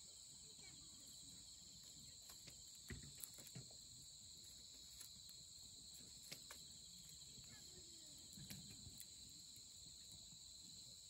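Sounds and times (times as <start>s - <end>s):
night insects chirping: 0.0s - 11.0s.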